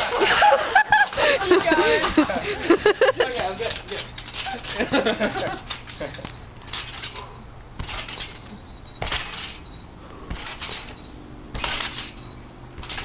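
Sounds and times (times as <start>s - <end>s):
trampoline landing thuds: 0.0s - 13.0s.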